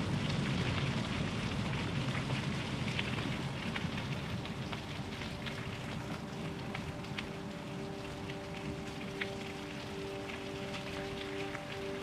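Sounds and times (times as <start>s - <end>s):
light rain falling: 0.0s - 12.0s
raindrop ticks: 0.0s - 12.0s.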